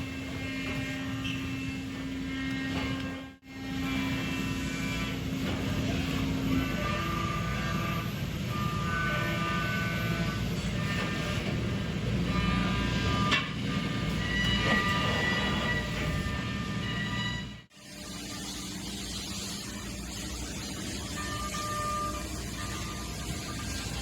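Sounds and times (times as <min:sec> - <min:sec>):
machine whining: 0:00.0 - 0:24.0.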